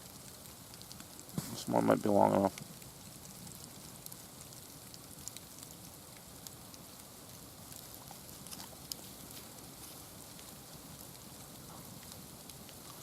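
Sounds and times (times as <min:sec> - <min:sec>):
faint outdoor hiss: 0:00.0 - 0:13.0
soft ticks and crackles: 0:00.0 - 0:13.0.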